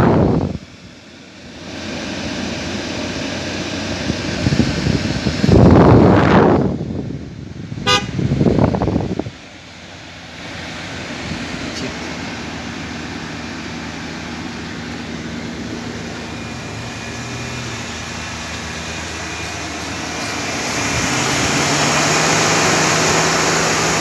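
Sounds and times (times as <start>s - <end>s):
air conditioning blower rushing: 0.0s - 24.0s
engine humming: 0.0s - 24.0s.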